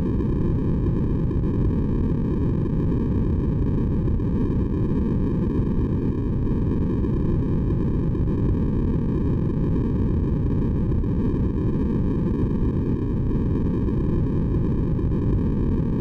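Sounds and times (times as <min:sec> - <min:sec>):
deep rumbly white noise: 0:00.0 - 0:16.0.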